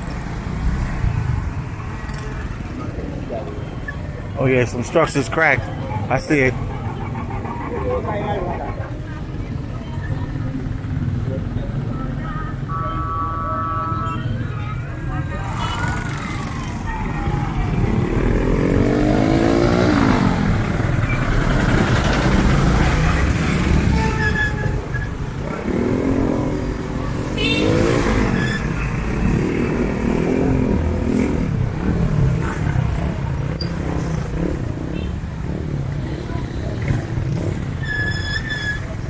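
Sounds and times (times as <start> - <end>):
motorcycle engines revving: 0.0 - 12.8, 14.2 - 39.0
traffic rumble: 0.0 - 39.0.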